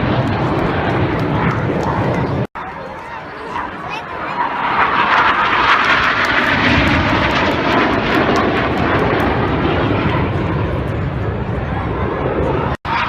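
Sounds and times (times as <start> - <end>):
jets flying past roaring: 0.0 - 13.0.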